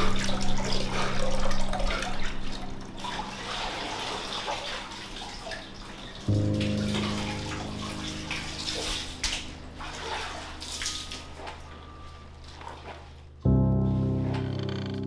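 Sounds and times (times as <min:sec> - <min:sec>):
water running and splashing: 0:00.0 - 0:13.4
low musical drone: 0:00.0 - 0:15.0.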